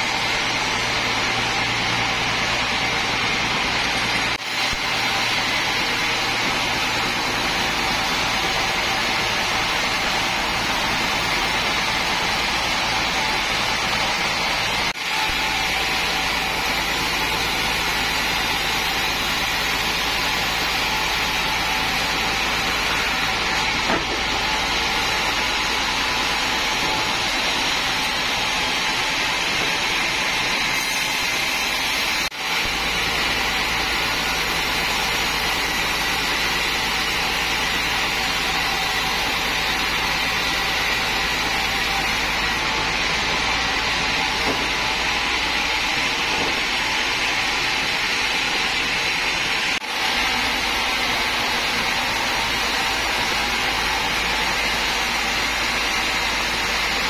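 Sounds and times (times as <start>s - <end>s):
band saw machinery whirring: 0.0s - 57.0s.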